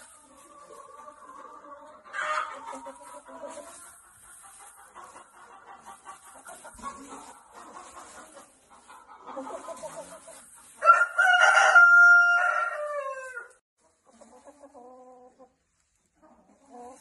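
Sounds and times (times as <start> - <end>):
chicken clucking: 0.0 - 17.0.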